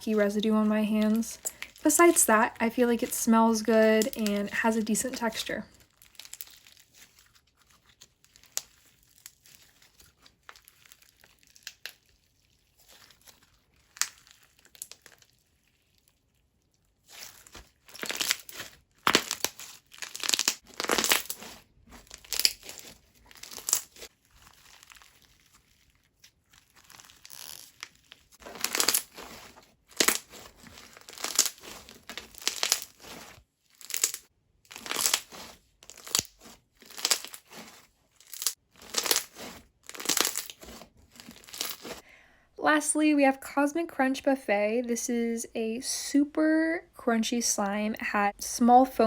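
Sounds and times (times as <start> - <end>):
crunchy slime crackling: 0.2 - 42.0.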